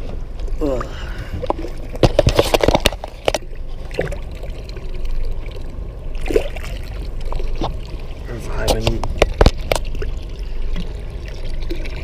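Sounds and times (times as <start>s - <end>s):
water splashing against boat: 0.0s - 12.0s.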